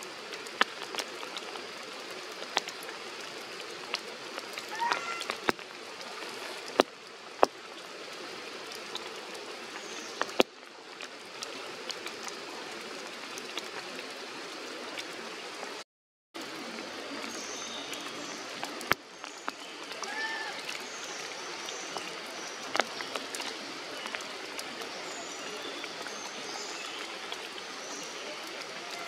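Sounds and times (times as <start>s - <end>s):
rain on foliage: 0.0s - 15.8s, 16.4s - 29.0s.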